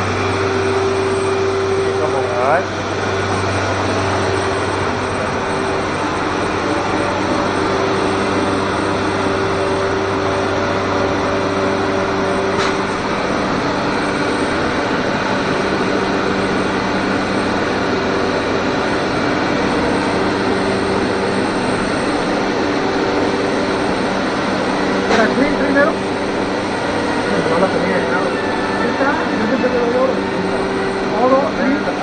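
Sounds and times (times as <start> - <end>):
machinery hum with whine: 0.0 - 32.0.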